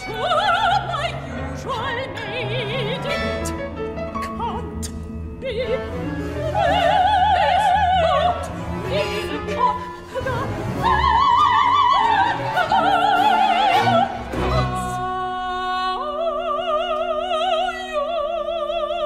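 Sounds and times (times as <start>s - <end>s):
women singing opera: 0.0s - 3.6s, 5.4s - 19.0s.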